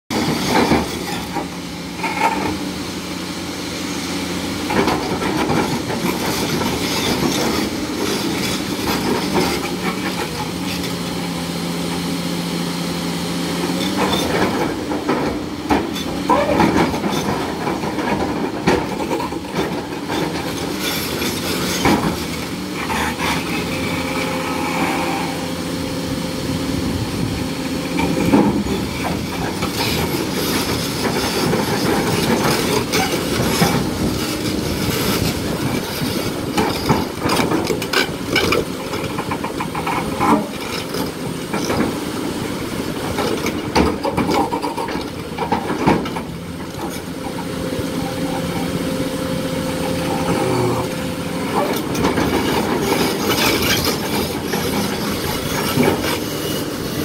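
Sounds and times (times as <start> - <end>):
excavator diesel engine under load: 0.1 - 57.0.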